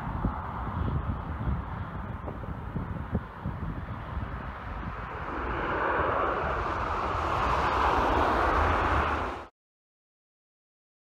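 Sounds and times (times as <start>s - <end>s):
jet engines rumbling: 0.0s - 9.5s.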